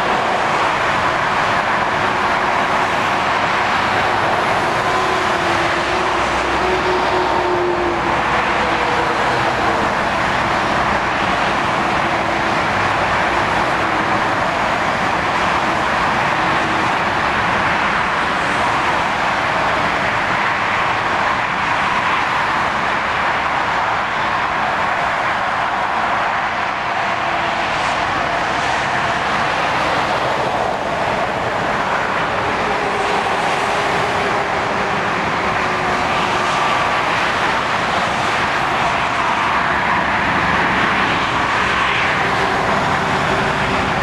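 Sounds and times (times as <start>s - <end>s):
dense motorway traffic: 0.0s - 44.0s.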